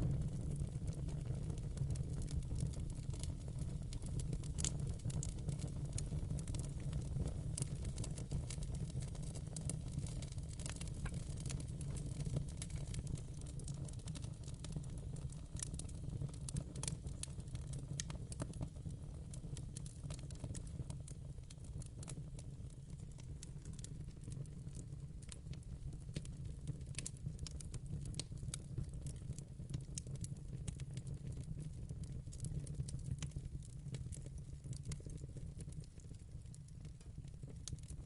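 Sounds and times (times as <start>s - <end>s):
wood fire crackling: 0.0s - 30.9s, 31.6s - 38.0s.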